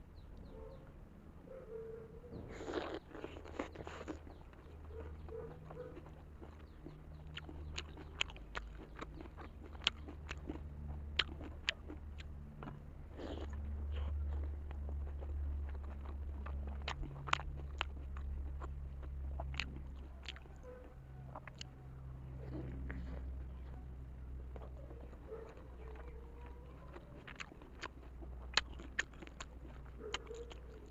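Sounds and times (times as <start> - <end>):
steady low hum: 0.0 - 30.9
chewing dumpling: 2.3 - 30.9.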